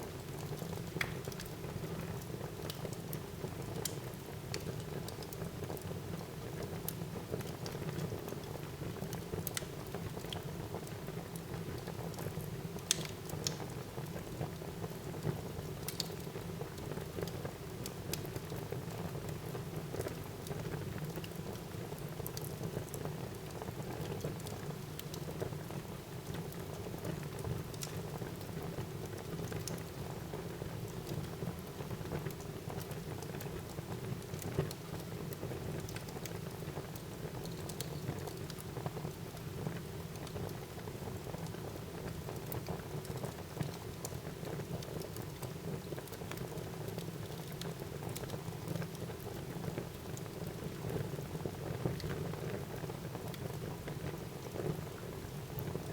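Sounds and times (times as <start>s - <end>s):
fire crackling and popping: 0.2s - 25.6s, 26.2s - 55.9s.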